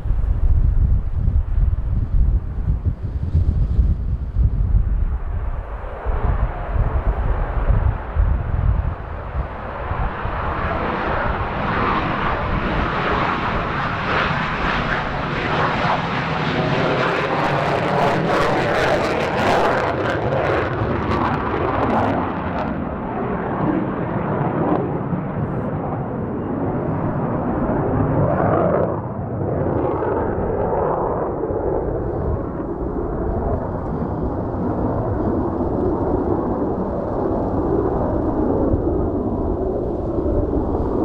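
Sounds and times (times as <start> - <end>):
fighter jet noise: 0.0 - 41.0
wind buffeting microphone: 0.0 - 41.0.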